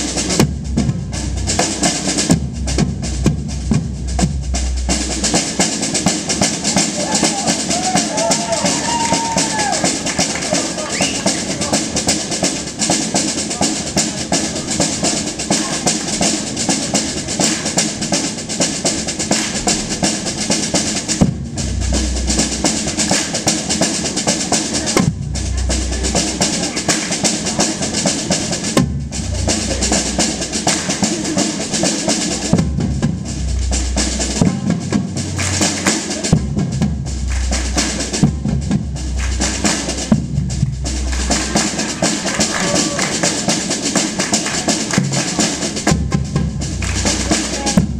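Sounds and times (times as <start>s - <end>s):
deep bass drum strokes: 0.0s - 10.8s, 11.4s - 47.9s
drum ensemble playing: 0.0s - 47.9s.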